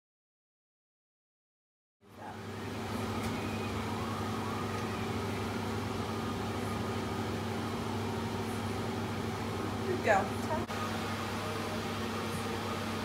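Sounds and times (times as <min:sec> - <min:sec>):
kitchen fan motor hum: 0:02.0 - 0:13.0.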